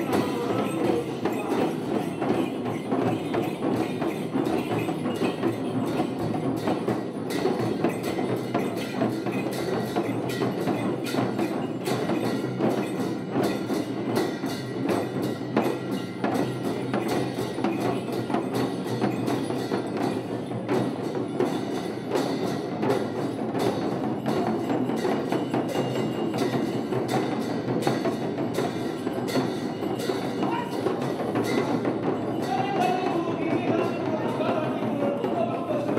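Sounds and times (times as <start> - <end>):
frame drums beaten with sticks: 0.0 - 35.9
metallic ringing: 0.0 - 35.9.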